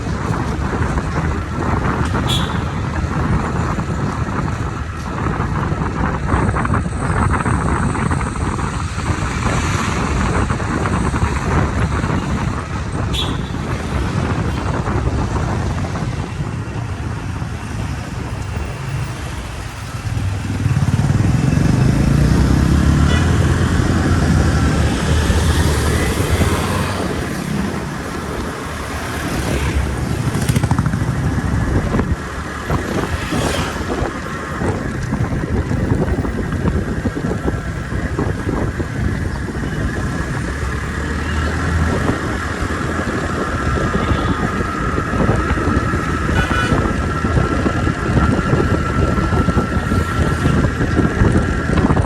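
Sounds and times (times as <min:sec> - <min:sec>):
engine rumble: 0:00.0 - 0:52.0.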